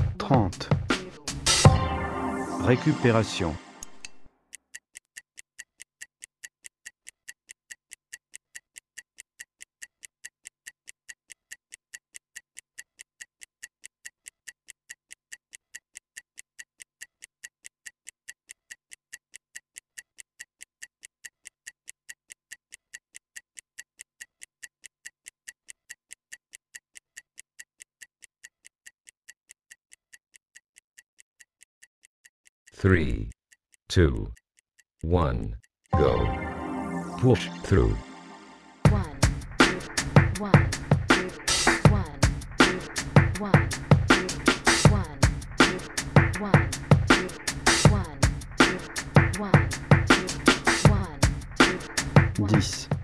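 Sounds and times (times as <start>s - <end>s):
stopwatch ticking: 4.5s - 35.9s, 38.9s - 53.0s.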